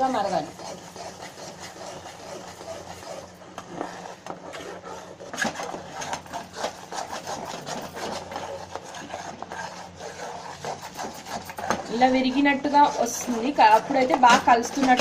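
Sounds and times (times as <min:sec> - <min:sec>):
spatula scraping steel pan: 0:00.0 - 0:15.0.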